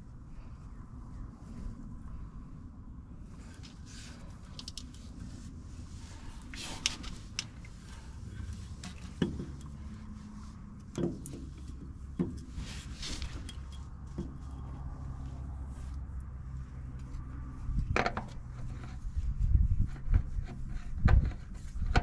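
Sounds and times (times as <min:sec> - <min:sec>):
low steady rumble: 0:00.0 - 0:22.0
oil filter canister scraping: 0:03.4 - 0:22.0.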